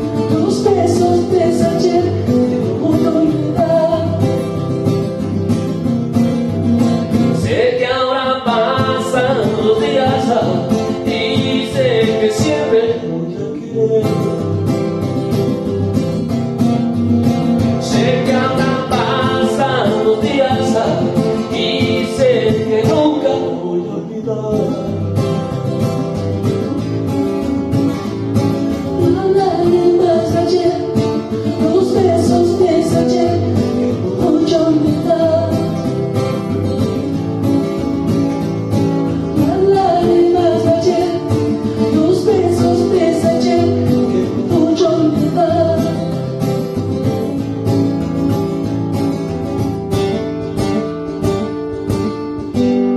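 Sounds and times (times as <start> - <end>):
country song on acoustic guitar: 0.0 - 52.9.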